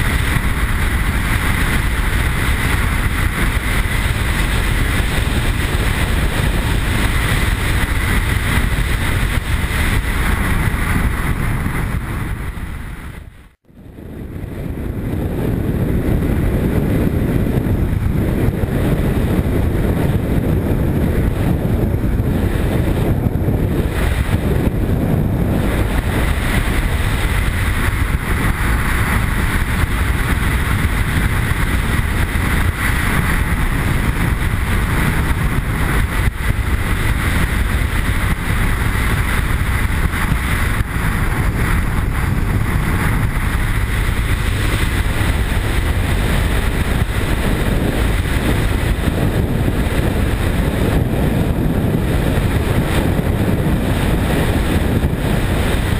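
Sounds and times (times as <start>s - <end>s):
motorcycle engine running: 0.0s - 55.9s
road noise: 0.0s - 55.9s
wind rush: 0.0s - 55.9s.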